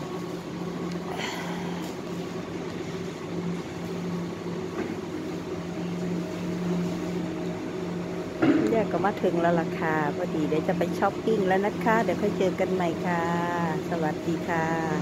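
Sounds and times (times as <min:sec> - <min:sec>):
refrigeration hum: 0:00.0 - 0:15.0.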